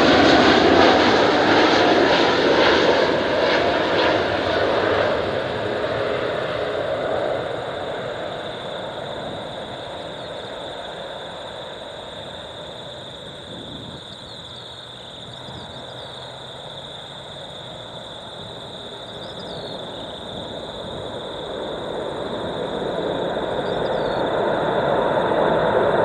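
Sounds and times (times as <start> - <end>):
jet engines rushing and whining: 0.0 - 26.0.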